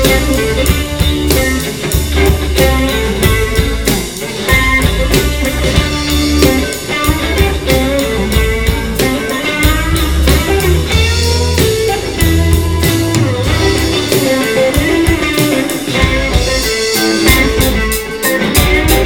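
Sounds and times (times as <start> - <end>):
bass guitar: 0.0 - 19.0
drum kit beat: 0.0 - 19.0
electric guitar with bent notes: 0.0 - 19.0.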